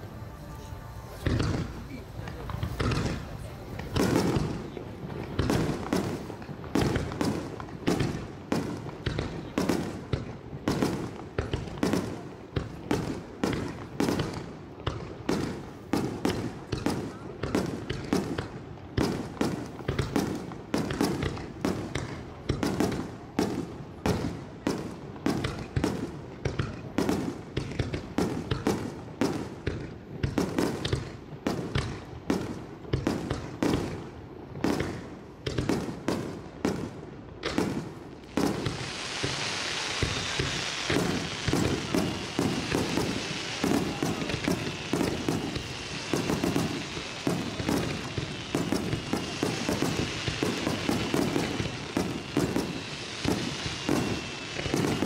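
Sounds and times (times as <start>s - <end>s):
fireworks bursting: 0.0s - 55.0s
steady hiss: 0.0s - 55.0s.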